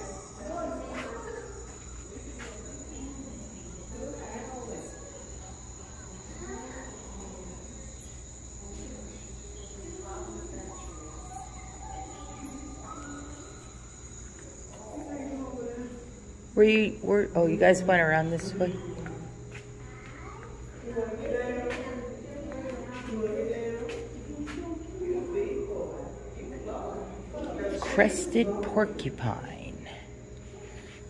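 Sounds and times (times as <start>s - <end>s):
crickets chirring: 0.0s - 31.0s
faint murmuring voices: 0.0s - 31.0s.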